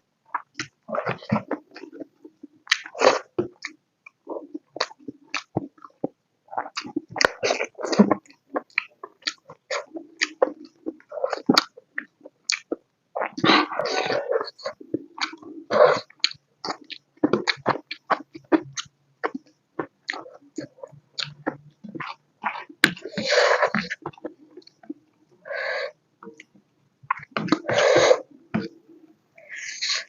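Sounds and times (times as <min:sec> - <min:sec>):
wet chewing and mouth smacks: 0:00.3 - 0:25.2.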